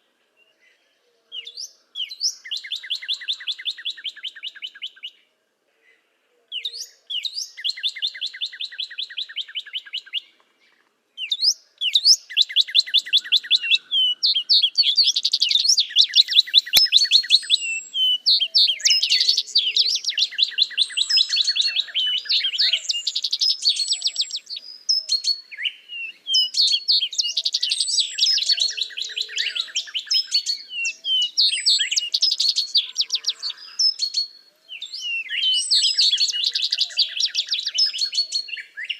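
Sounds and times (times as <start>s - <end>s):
songbirds trilling and chirping: 0.0s - 38.9s.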